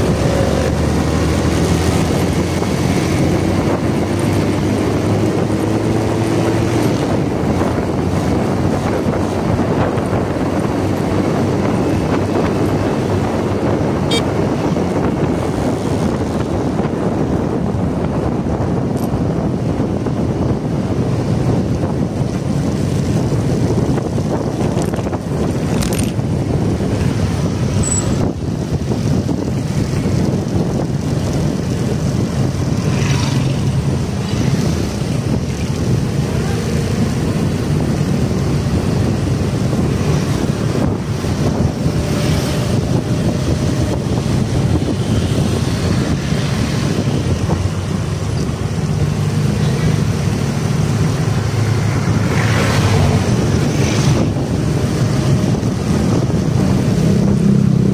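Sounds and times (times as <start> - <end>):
road noise: 0.0 - 57.9.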